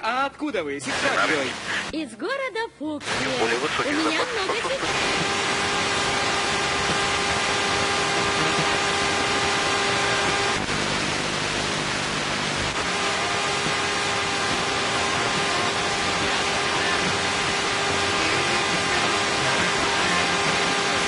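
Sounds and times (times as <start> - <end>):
tape playback hiss: 0.0 - 21.0
low buzz: 3.0 - 21.0.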